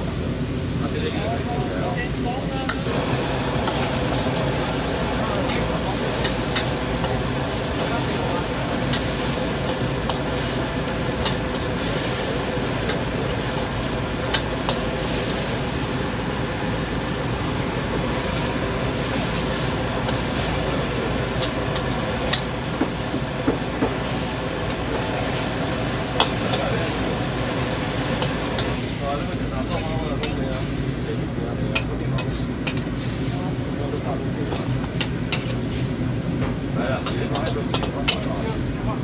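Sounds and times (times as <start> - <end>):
wok sizzling: 0.0 - 31.5, 32.1 - 38.9.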